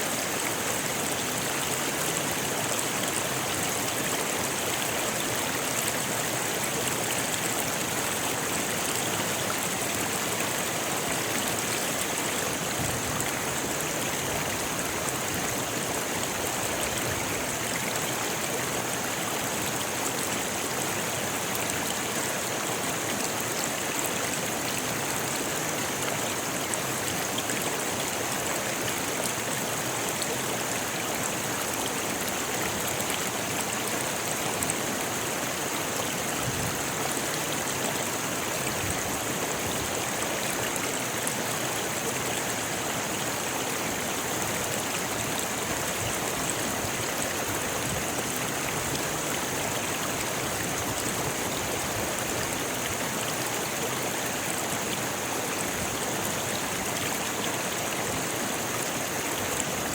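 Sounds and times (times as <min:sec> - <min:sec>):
water rushing over stones: 0:00.0 - 0:59.9.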